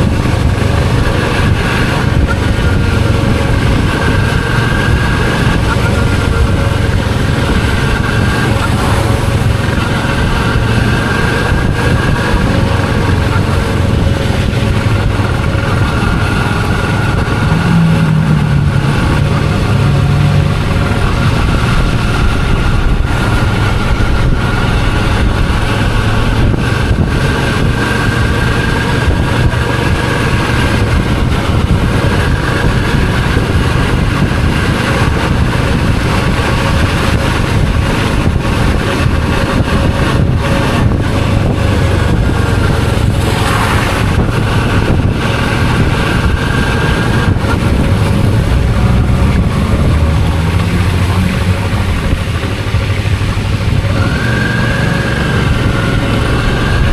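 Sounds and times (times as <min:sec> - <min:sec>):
motorcycle engine running: 0:00.0 - 0:56.9
road and wind noise: 0:00.0 - 0:56.9.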